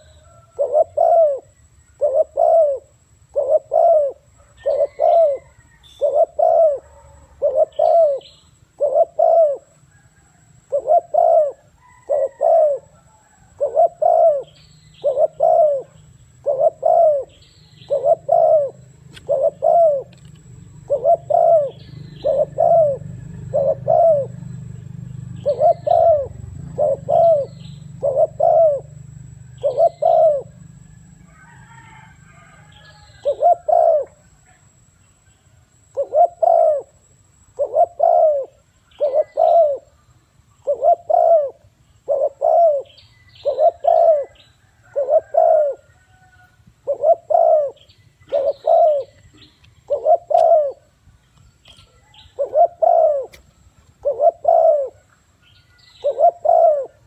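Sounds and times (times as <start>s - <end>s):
dove cooing: 0.0s - 34.6s, 35.8s - 51.0s, 51.8s - 55.2s, 55.8s - 57.0s.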